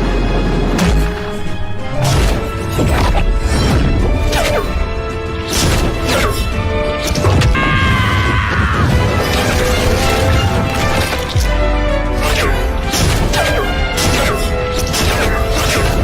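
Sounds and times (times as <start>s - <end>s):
dramatic fight music: 0.0s - 16.0s.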